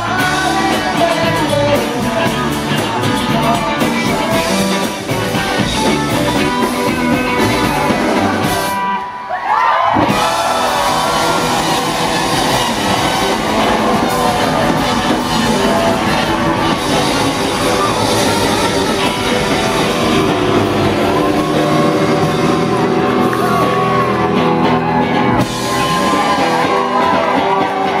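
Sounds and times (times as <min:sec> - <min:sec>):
bass: 0:00.0 - 0:28.0
drums: 0:00.0 - 0:28.0
electric guitars: 0:00.0 - 0:28.0.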